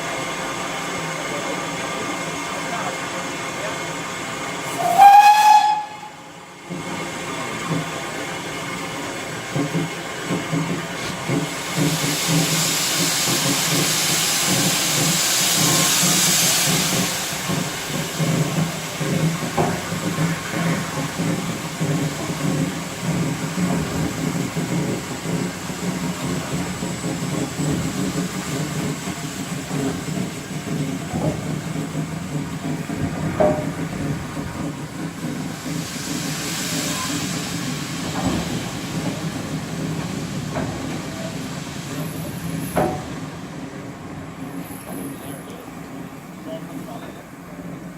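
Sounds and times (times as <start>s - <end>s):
steam locomotive low rumble: 0.0s - 47.9s
hiss of escaping steam: 3.2s - 43.6s.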